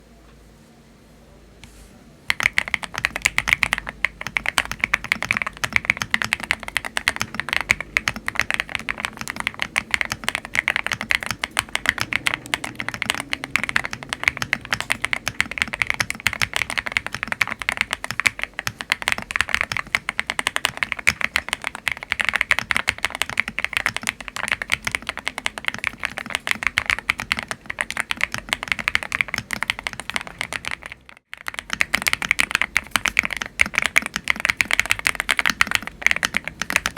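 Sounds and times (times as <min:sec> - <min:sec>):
fast typing on mechanical keyboard: 0:02.3 - 0:36.9.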